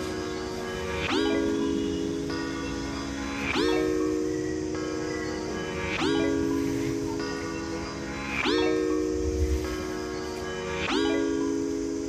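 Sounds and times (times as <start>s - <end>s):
sustained chord of held notes: 0.0s - 12.0s.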